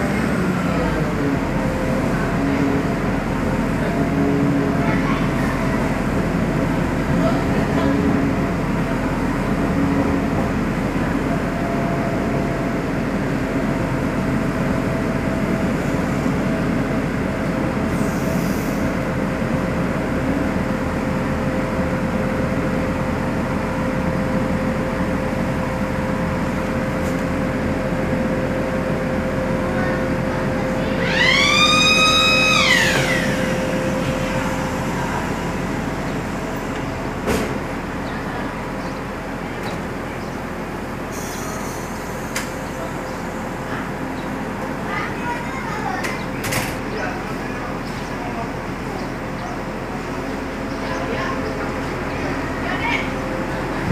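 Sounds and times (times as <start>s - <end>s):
train running rumble: 0.0s - 53.9s.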